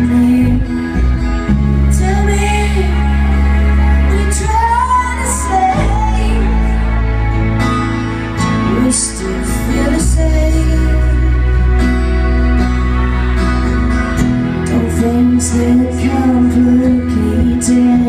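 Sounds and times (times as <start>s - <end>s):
acoustic guitar: 0.0s - 18.0s
electric bass low notes: 0.0s - 18.0s.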